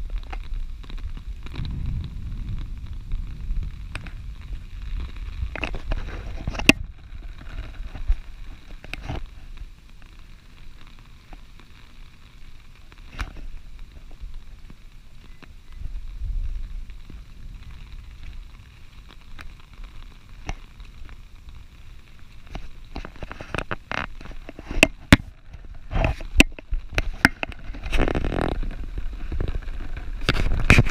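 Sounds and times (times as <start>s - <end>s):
steady rain: 0.0s - 30.9s
wind rumbling on microphone: 0.0s - 30.9s.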